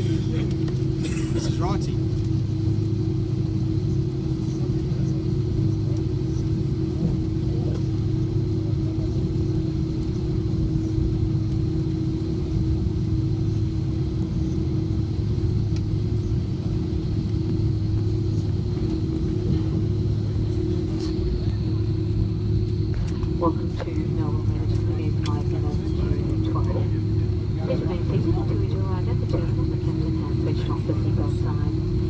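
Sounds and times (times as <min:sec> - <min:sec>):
jet engine drone: 0:00.0 - 0:32.0
mid-pitched hum: 0:00.0 - 0:32.0.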